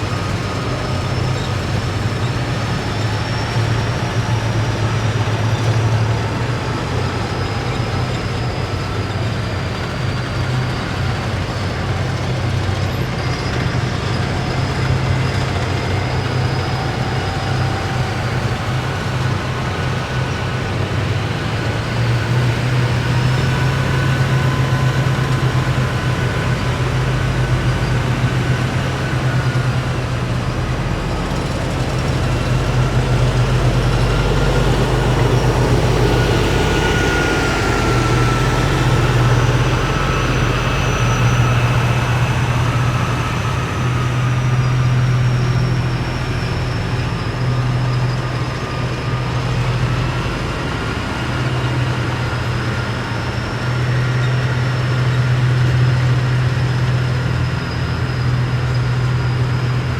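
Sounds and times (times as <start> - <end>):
deep engine drone: 0.0 - 59.9.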